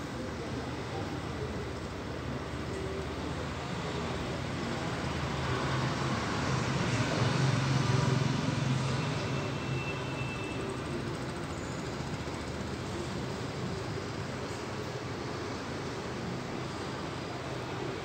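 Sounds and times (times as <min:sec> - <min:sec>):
street noise: 0:00.0 - 0:18.0.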